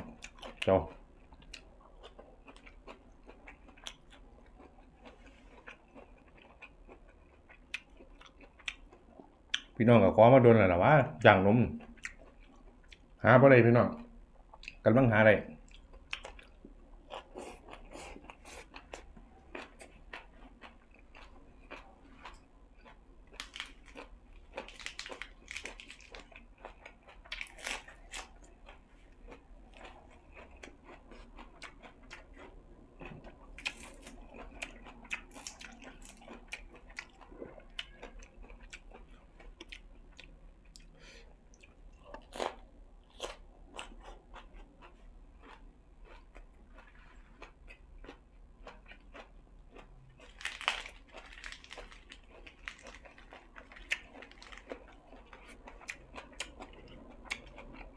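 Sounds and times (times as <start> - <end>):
person chewing crunchy food: 0.0 - 9.8, 11.7 - 13.2, 15.5 - 57.9.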